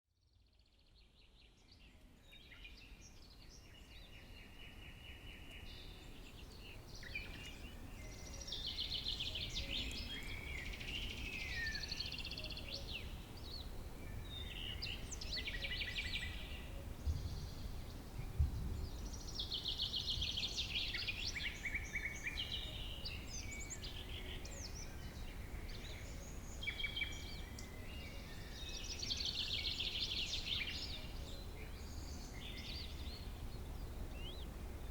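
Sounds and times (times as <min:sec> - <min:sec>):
songbirds singing and chirping: 0:00.2 - 0:34.9.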